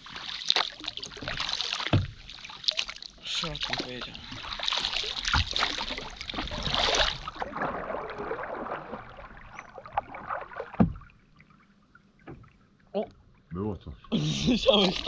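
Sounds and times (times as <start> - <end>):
paddles splashing: 0.0 - 15.0
water rushing along hull: 0.0 - 15.0.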